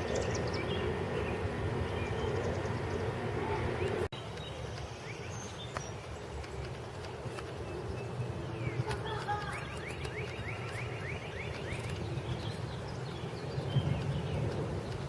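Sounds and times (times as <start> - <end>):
birds chirping: 0.0 - 15.0
steady outdoor rumble: 0.0 - 15.0.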